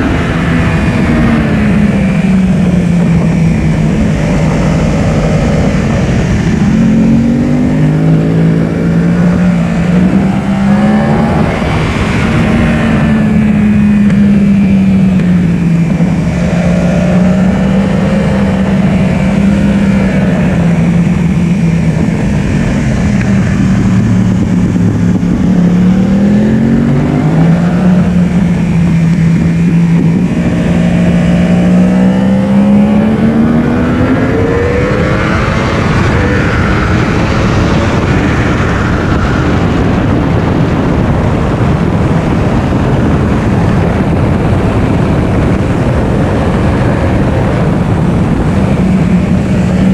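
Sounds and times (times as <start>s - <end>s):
motorcycle engine at high revs: 0.0s - 49.9s
rushing noise: 0.0s - 49.9s.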